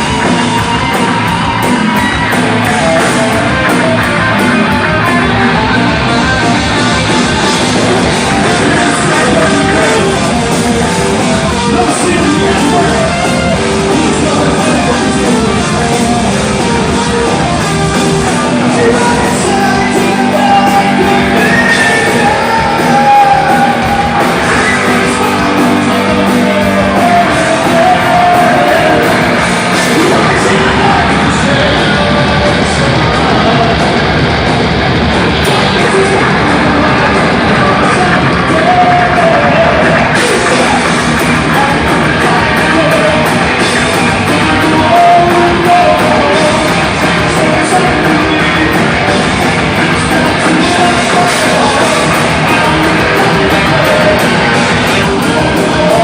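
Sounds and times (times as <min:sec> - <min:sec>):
guitar: 0:00.0 - 0:56.0
heavy rock band playing: 0:00.0 - 0:56.0
vocals: 0:00.0 - 0:56.0.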